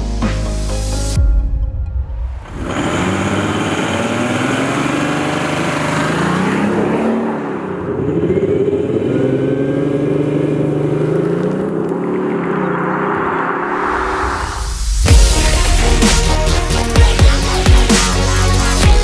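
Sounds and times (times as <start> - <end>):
car engine accelerating: 2.4 - 19.0.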